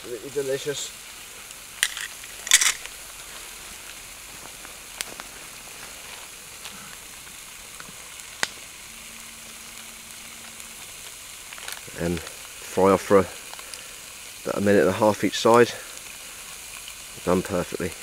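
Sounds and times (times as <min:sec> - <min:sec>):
scallops sizzling in a frying pan: 0:00.0 - 0:18.0
sharp pops of frying: 0:01.1 - 0:14.5, 0:15.5 - 0:18.0.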